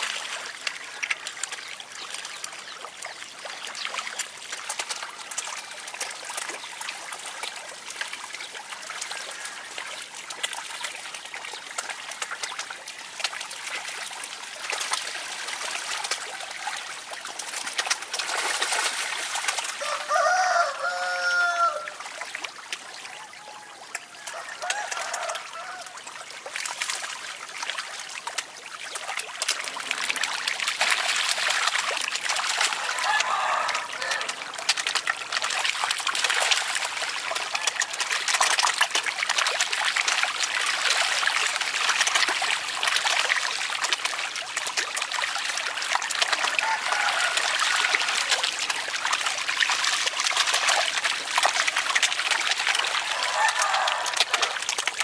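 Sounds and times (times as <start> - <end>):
fish splashing in water: 0.0 - 55.0.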